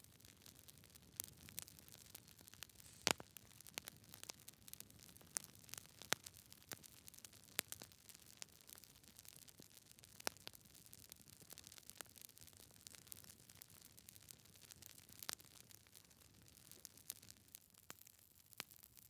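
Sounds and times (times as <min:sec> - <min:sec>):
wood fire crackling: 0:00.1 - 0:17.3.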